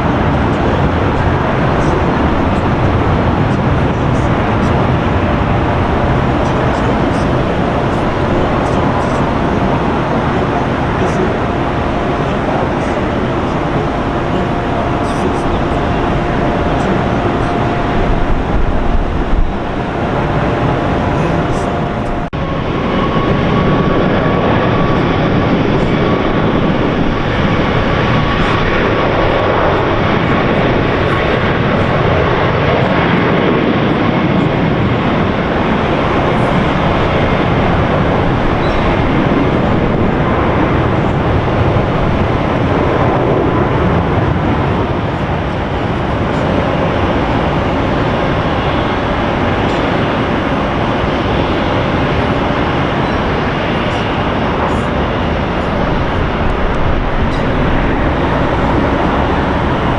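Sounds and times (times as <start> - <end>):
faint whining tone: 0.0 - 59.9
jet engines running: 0.0 - 59.9.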